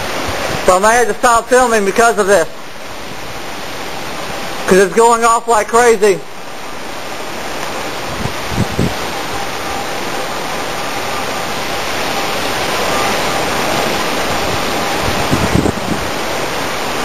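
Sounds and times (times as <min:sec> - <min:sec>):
heavy rain: 0:00.0 - 0:17.0
strong wind: 0:00.0 - 0:17.0.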